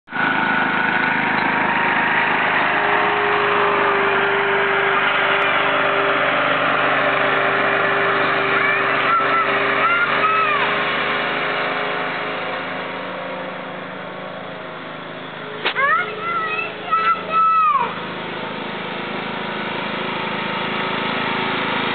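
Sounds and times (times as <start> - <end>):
riding lawn mower engine running: 0.0 - 21.9.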